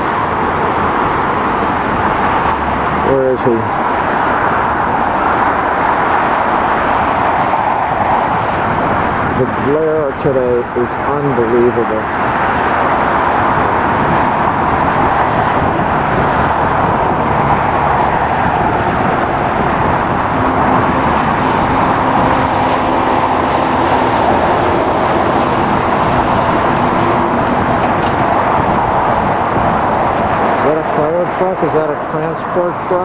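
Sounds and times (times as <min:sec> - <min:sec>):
vehicle noise: 0:00.0 - 0:33.0.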